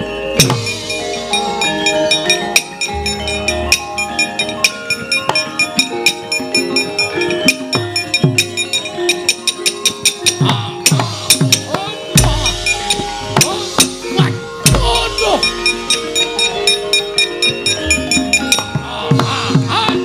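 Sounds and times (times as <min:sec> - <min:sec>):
gamelan metallophones: 0:00.0 - 0:20.0
hand drum strokes: 0:00.4 - 0:20.0.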